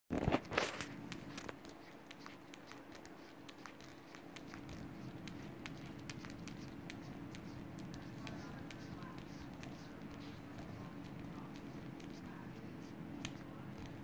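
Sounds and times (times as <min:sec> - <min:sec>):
low steady hum: 0:00.2 - 0:14.0.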